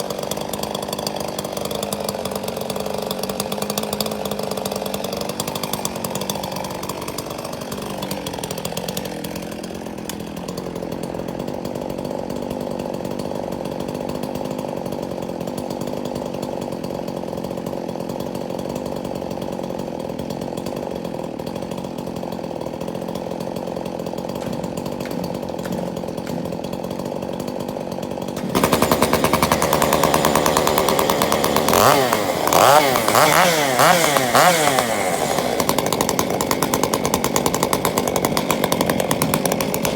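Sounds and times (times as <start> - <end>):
chainsaw running and cutting: 0.0 - 39.9.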